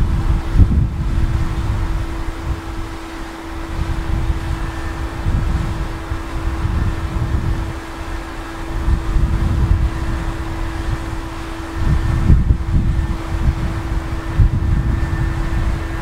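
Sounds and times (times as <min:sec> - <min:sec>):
jet engines droning: 0:00.0 - 0:16.0
wind buffeting microphone: 0:00.0 - 0:16.0.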